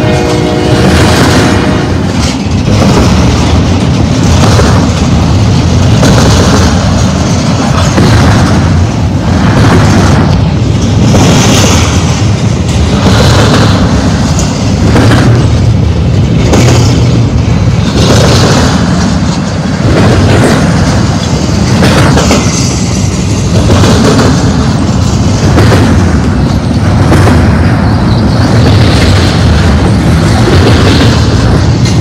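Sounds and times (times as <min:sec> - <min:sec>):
freight train wheels rumbling on rail: 0:00.0 - 0:32.0.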